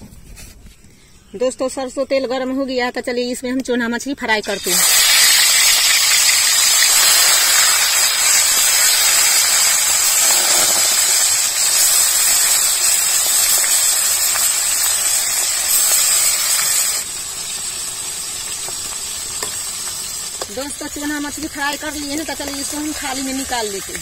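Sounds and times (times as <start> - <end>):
fish sizzling in hot oil: 4.3 - 24.0.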